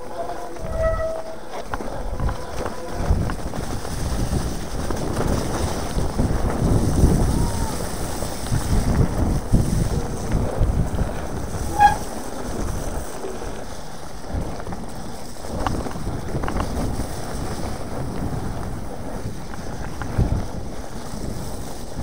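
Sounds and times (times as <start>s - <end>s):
mountain bike rolling rumble: 0.0s - 22.0s
wind buffeting microphone: 0.0s - 22.0s.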